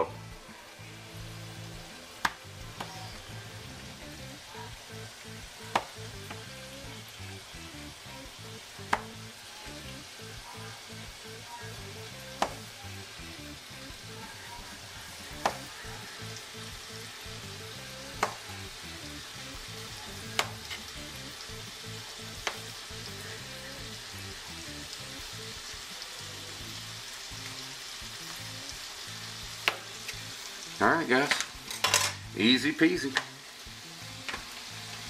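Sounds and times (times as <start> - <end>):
bacon sizzling in a frying pan: 0.0 - 35.0.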